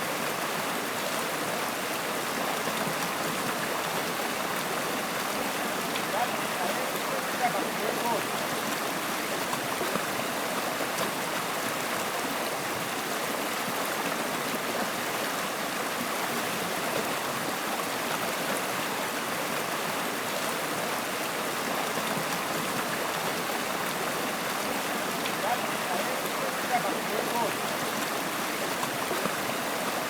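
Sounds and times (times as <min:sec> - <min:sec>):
stream water flowing: 0:00.0 - 0:30.0.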